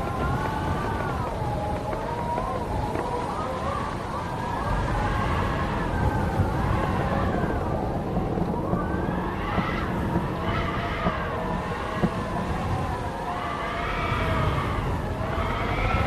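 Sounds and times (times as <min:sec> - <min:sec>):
howling wind: 0:00.0 - 0:16.0.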